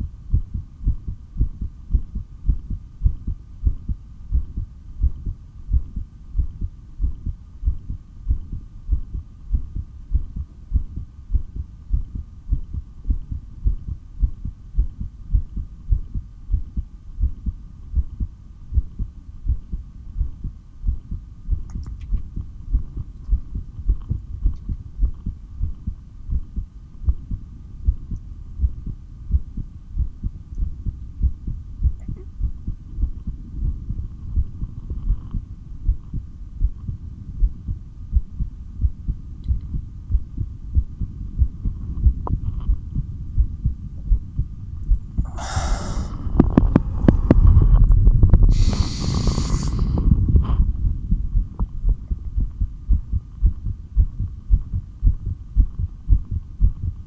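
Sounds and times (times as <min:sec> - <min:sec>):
faint steady hum: 0:00.0 - 0:57.0
heartbeat through stethoscope: 0:00.0 - 0:57.0.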